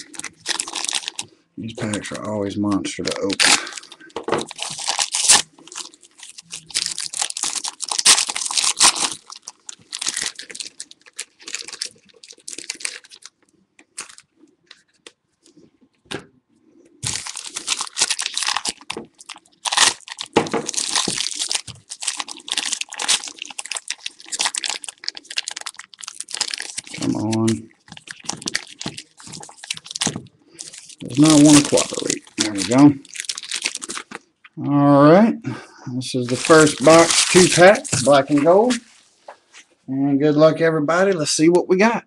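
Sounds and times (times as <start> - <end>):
wrapper crinkling and tearing: 0.0 - 15.2, 17.0 - 34.3, 36.2 - 39.0.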